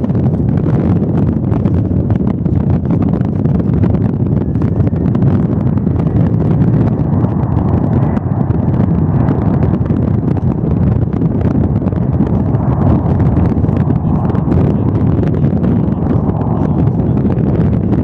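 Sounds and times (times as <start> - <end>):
jet engines rumbling: 0.0 - 18.0
wind buffeting microphone: 0.0 - 18.0.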